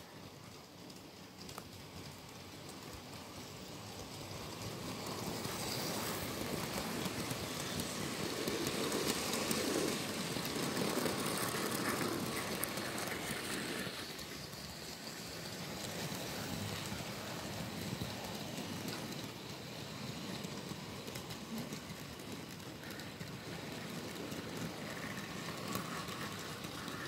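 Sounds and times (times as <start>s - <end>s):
model train wheels rattling: 0.0s - 27.0s.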